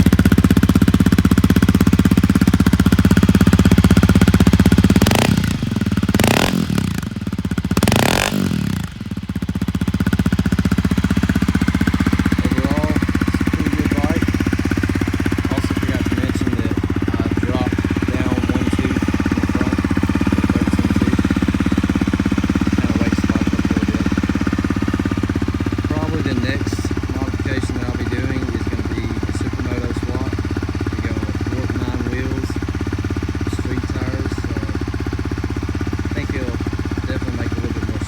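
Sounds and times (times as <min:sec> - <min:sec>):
motorcycle engine revving and idling: 0:00.0 - 0:38.0.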